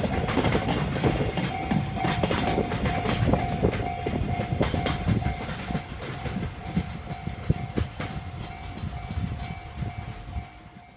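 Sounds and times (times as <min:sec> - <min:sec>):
level crossing warning bell: 0:00.0 - 0:10.9
train wheels clattering over rail joints: 0:00.0 - 0:10.9.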